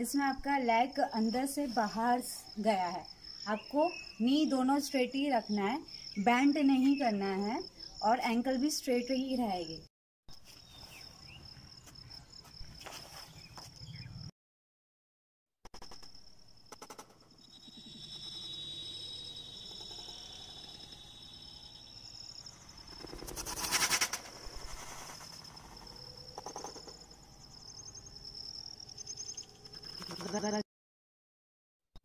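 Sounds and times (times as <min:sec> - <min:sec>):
insects chirping: 0:00.0 - 0:14.3, 0:15.7 - 0:30.6.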